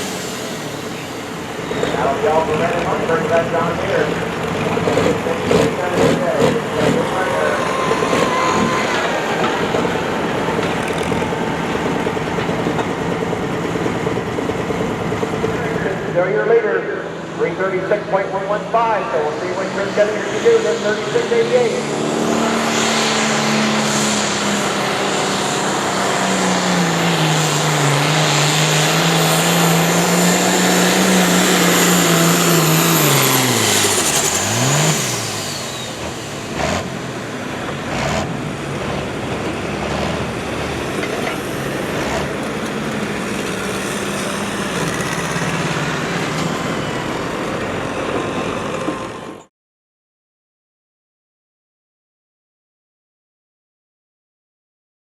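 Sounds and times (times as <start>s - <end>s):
engine running hard under load: 0.0s - 49.5s.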